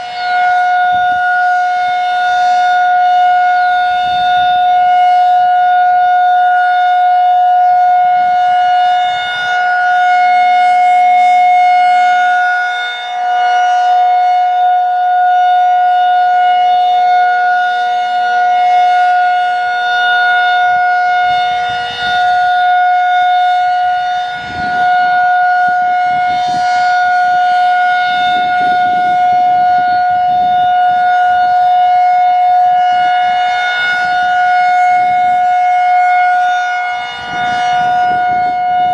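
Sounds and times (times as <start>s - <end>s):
tornado siren steady high tone: 0.0s - 38.9s.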